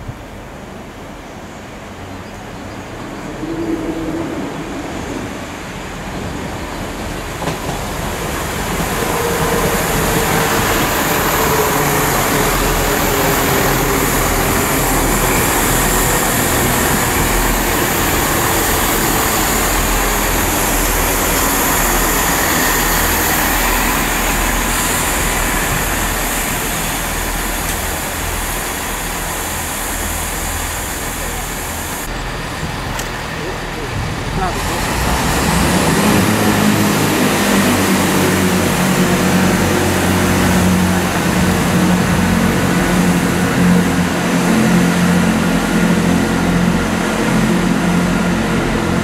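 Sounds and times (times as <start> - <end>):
diesel train engines: 0.0 - 49.0
train wheels on rails: 4.1 - 49.0.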